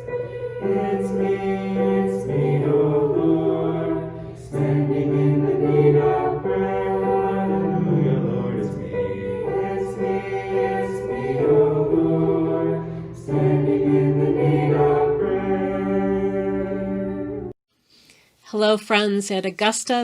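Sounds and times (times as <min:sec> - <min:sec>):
choir singing a hymn: 0:00.0 - 0:17.5.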